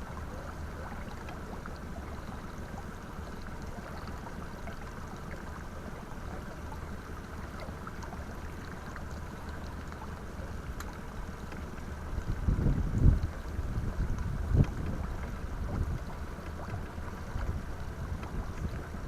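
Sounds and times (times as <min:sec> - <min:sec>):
steady low rumble: 0:00.0 - 0:19.0
water lapping against hull: 0:00.0 - 0:19.0.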